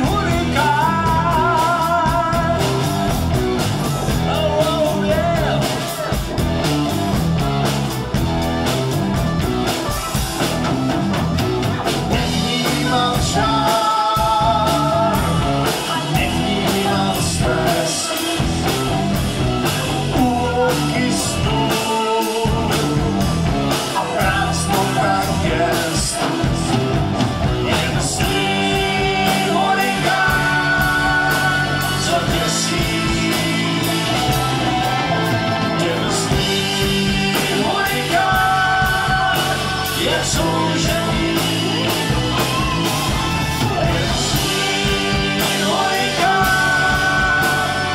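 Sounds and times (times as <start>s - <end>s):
rock music with singing: 0.0s - 47.9s.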